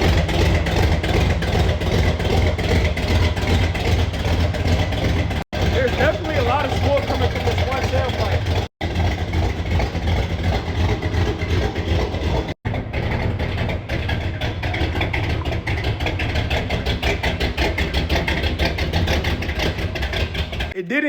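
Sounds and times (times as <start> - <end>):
car engine idling unevenly: 0.0 - 20.8.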